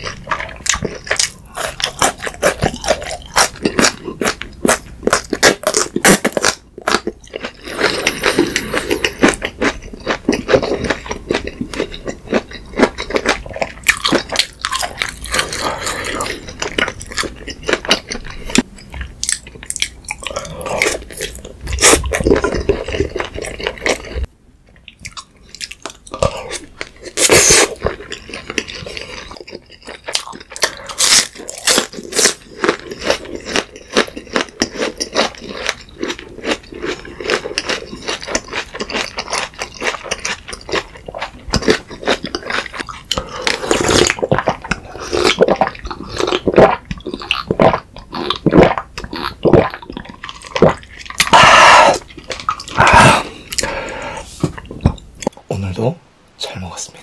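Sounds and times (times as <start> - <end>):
person chewing and crunching: 0.0 - 55.4.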